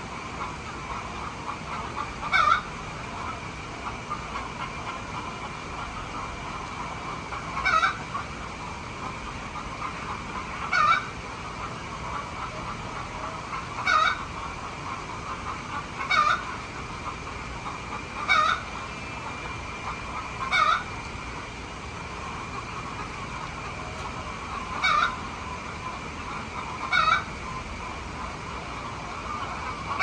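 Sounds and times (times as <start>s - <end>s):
fowl calling: 0.4s - 8.4s, 9.5s - 21.0s, 22.3s - 30.0s.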